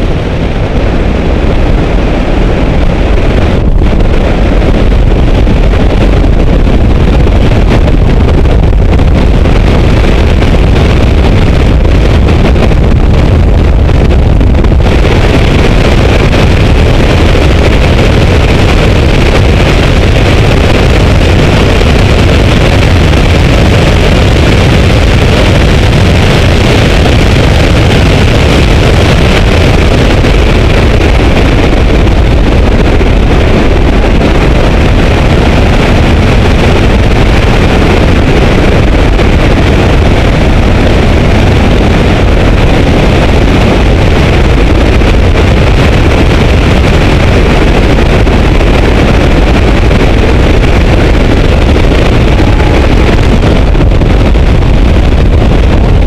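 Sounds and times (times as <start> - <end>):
car engine and tyre noise: 0.0 - 56.0
wind buffeting microphone: 0.0 - 56.0.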